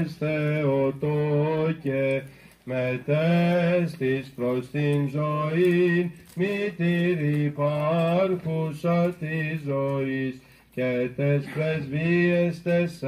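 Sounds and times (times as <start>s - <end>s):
man chanting into microphone: 0.0s - 13.0s.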